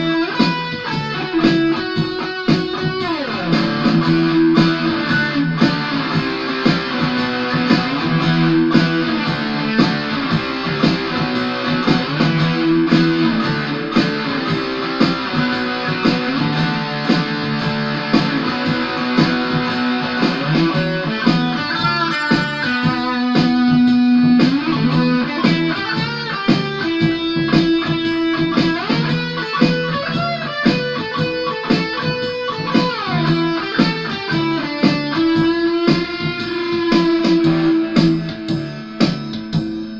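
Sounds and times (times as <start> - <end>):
electric guitar lead lines: 0.0 - 39.9
held low guitar chords: 0.0 - 39.9.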